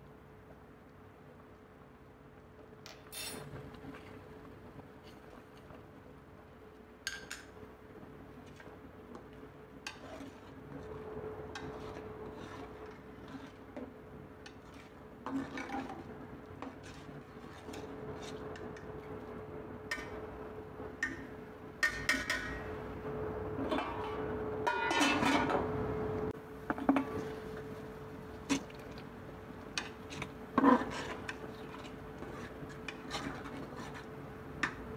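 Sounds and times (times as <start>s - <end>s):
faint hum: 0.0s - 34.9s.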